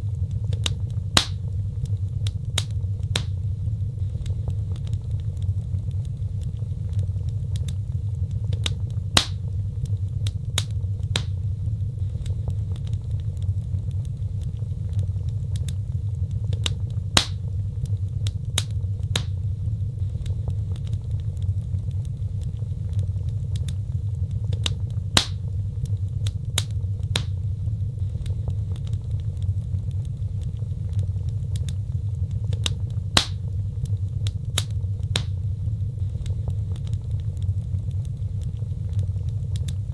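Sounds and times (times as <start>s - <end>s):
crackles and pops of burning wood: 0.0s - 39.9s
low rumble of flames: 0.0s - 39.9s.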